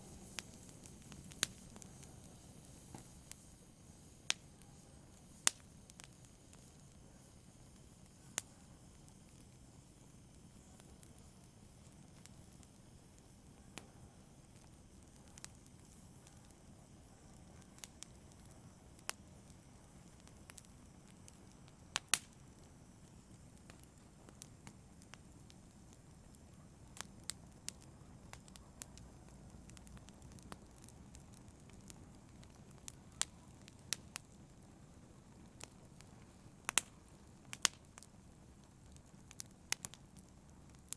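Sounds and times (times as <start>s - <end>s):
low rush of burning: 0.0s - 40.9s
wood fire crackling: 0.0s - 40.9s.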